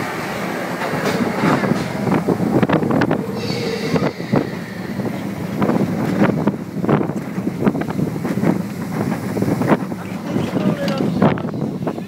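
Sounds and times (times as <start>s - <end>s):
roller coaster wheels rumbling: 0.0s - 12.0s
wind buffeting microphone: 0.0s - 12.0s.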